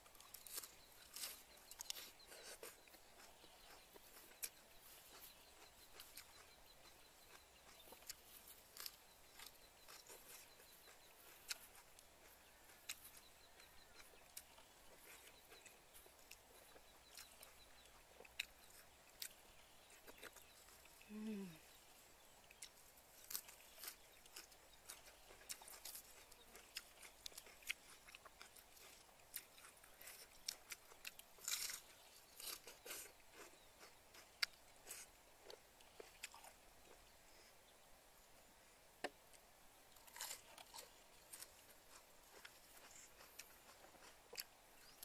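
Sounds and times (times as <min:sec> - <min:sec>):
person chewing and crunching: 0:00.0 - 0:37.1, 0:39.3 - 0:45.0.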